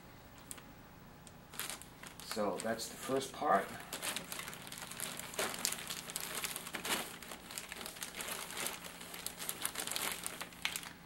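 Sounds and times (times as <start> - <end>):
plastic bags crinkling: 1.5 - 11.0.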